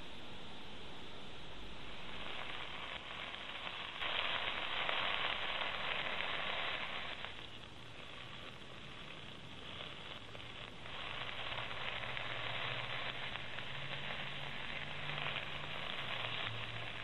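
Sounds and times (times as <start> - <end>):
onion sizzling in hot oil: 1.8 - 17.0.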